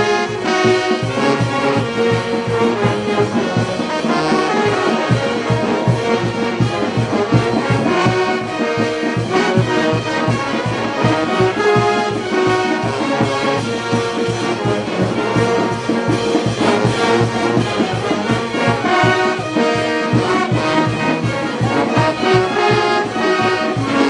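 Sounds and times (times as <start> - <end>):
trumpets and trombones: 0.0 - 24.0
tubas: 0.0 - 24.0.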